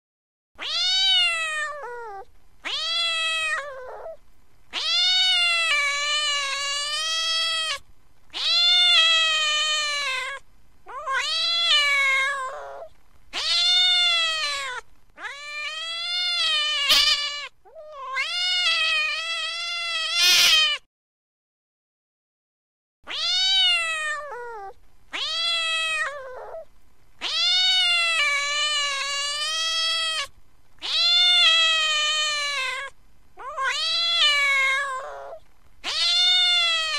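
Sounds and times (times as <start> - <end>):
cat meowing angrily: 0.6 - 20.9, 23.1 - 36.9.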